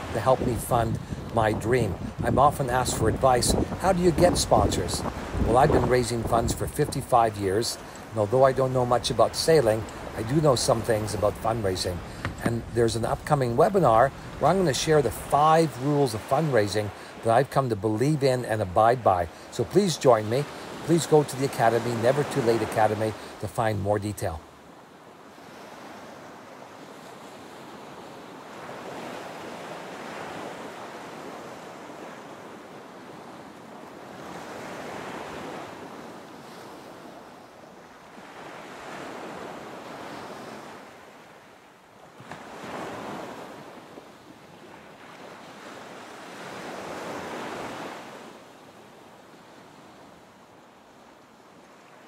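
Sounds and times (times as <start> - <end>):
ocean waves washing in: 0.0 - 52.0.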